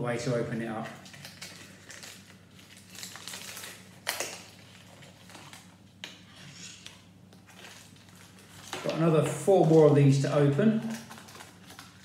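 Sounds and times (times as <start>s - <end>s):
packaging rustling and crinkling: 0.7s - 6.2s, 6.8s - 10.0s, 10.6s - 12.0s.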